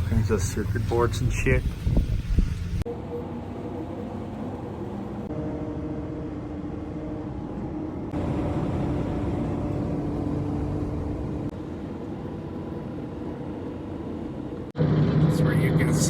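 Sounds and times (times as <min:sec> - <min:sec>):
car engine hum: 0:00.0 - 0:02.9, 0:04.1 - 0:16.0
road and wind noise: 0:00.0 - 0:16.0.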